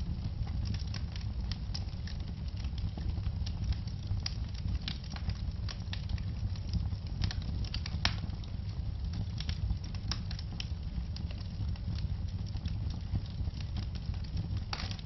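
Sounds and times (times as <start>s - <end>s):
logs crackling and popping in fireplace: 0.0s - 15.0s
low rumble of flames: 0.0s - 15.0s.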